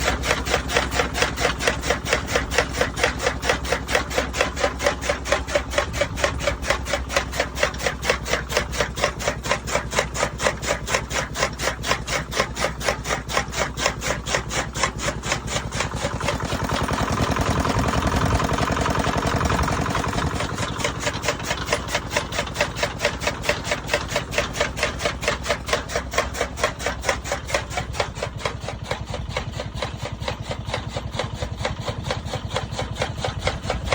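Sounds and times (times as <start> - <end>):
engine chugging steadily: 0.0 - 33.9.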